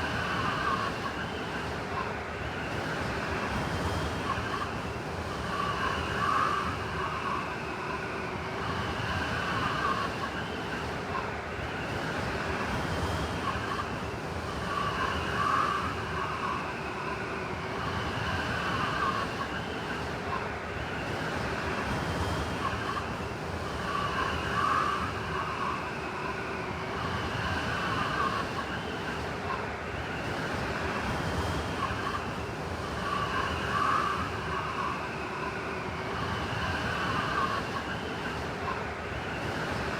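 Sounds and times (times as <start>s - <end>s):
howling blizzard wind: 0.0s - 39.9s.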